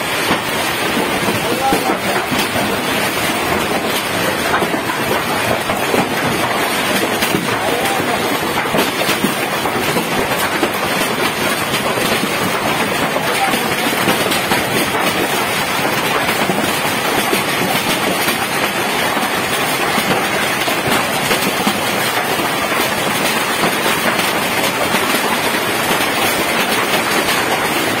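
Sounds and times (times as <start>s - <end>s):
hail and rain pelting down: 0.0s - 28.0s.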